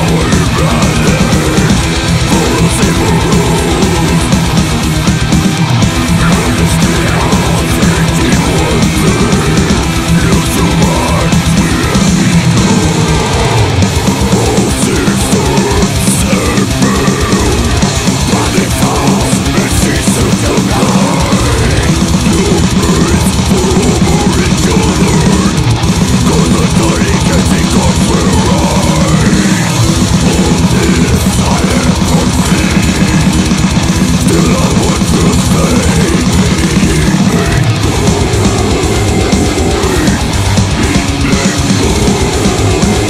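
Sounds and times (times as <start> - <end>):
distorted guitars: 0.0 - 43.0
fast dense drumming: 0.0 - 43.0.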